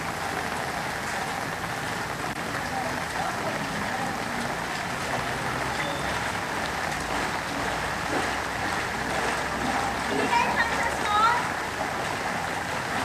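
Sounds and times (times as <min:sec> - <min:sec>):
rain falling on water: 0:00.0 - 0:13.0.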